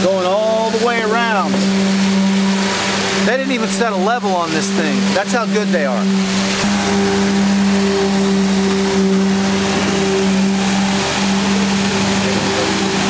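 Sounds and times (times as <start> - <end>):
broad rushing noise: 0.0 - 13.0
constant machine hum: 0.0 - 13.0.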